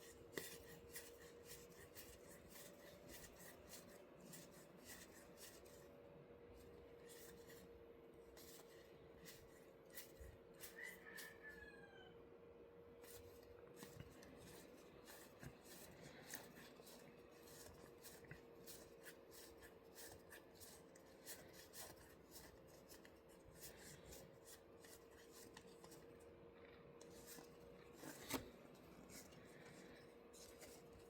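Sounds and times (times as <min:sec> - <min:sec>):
playing cards rubbing and ticking: 0:00.0 - 0:05.9, 0:06.5 - 0:11.4, 0:13.0 - 0:26.2, 0:27.0 - 0:31.0.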